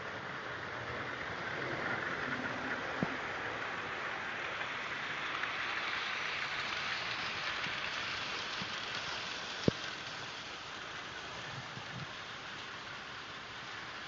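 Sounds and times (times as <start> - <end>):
model trains whirring on rails: 0.0 - 14.0.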